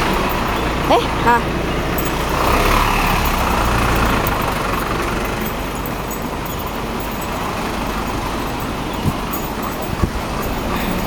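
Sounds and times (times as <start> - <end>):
background traffic hum: 0.0 - 11.0
passing vehicle rumble: 0.0 - 11.0.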